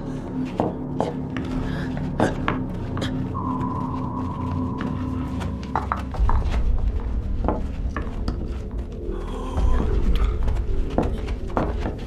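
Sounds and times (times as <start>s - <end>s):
low drone: 0.0s - 12.0s.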